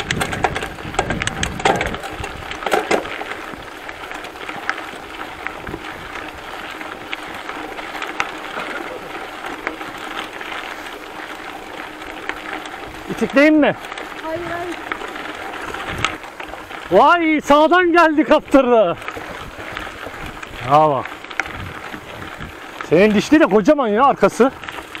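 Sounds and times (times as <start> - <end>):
bike clicks and rattles: 0.0 - 25.0
tyres crunching over gravel: 0.0 - 25.0.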